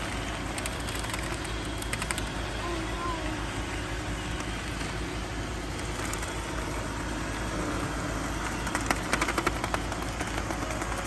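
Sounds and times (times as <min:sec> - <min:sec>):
robot vacuum running: 0:00.0 - 0:11.0.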